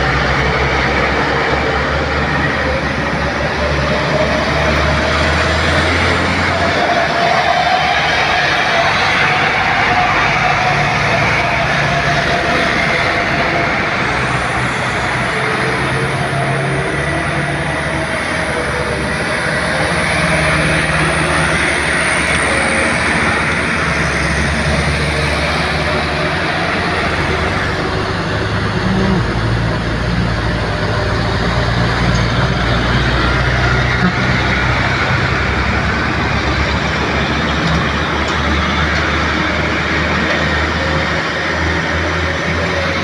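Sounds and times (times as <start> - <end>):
truck diesel engines running: 0.0 - 43.0.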